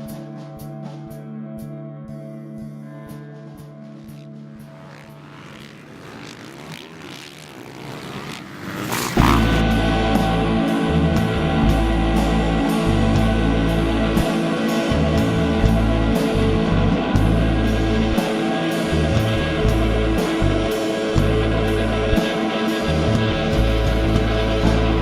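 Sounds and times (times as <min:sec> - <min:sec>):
rock music: 0:00.0 - 0:06.8, 0:09.0 - 0:25.0.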